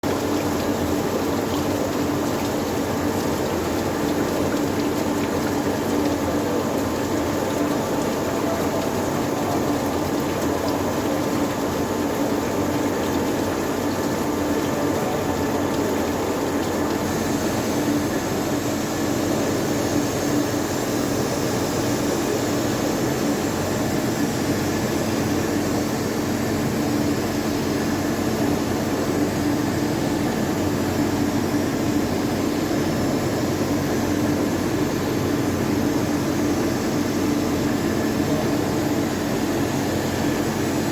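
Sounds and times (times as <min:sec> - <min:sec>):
machinery hum and whir: 0:00.0 - 0:40.9.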